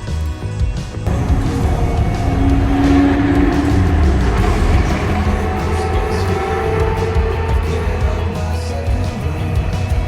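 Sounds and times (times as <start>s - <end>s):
background music: 0.0s - 10.0s
car engine running loud: 1.1s - 10.0s.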